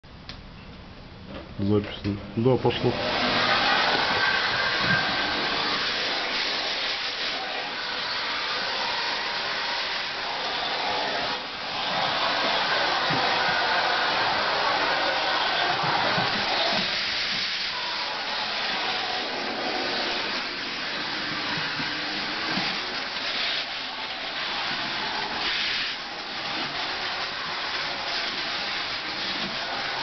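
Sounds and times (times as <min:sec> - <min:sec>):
vacuum cleaner running: 0:02.6 - 0:30.0.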